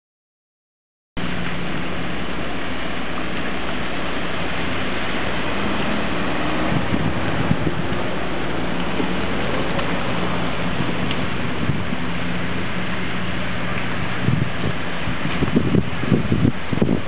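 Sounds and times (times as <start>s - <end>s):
heavy rain pouring: 1.2s - 17.0s.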